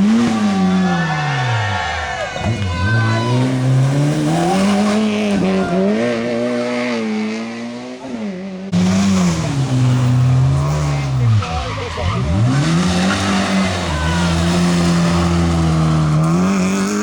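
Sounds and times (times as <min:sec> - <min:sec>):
engine at high revs: 0:00.0 - 0:01.6, 0:02.4 - 0:17.0
rally car engine at full throttle: 0:00.0 - 0:17.0.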